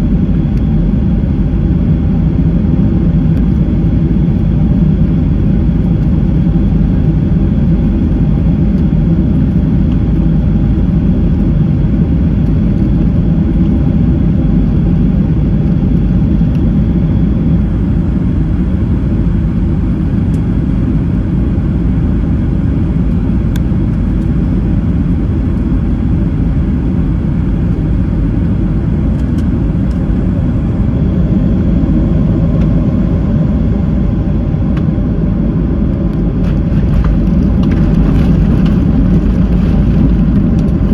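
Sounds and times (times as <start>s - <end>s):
jet engine rumble in cabin: 0.0s - 40.9s.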